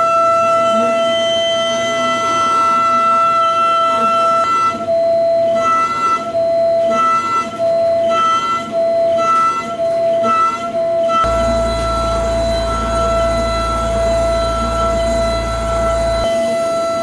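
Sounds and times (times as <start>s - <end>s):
mill spindle high whine: 0.0s - 17.0s.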